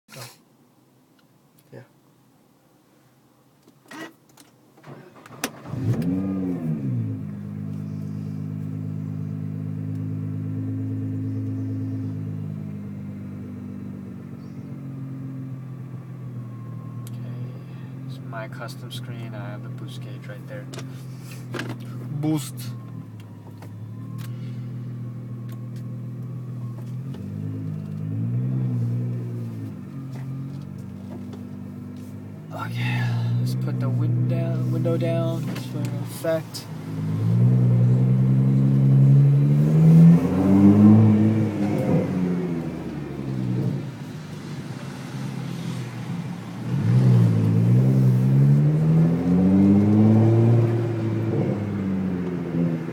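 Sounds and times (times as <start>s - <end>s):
car engine starting and idling: 3.7s - 52.9s.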